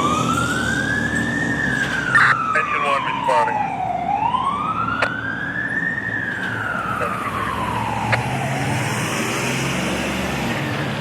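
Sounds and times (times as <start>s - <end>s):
siren wailing: 0.0s - 9.4s
truck engine low hum: 0.0s - 11.0s.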